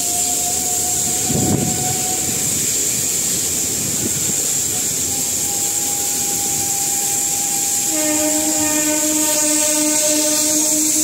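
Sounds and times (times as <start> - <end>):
train horn blast: 0.0 - 2.6, 4.7 - 11.0
moving train running noise: 0.0 - 11.0.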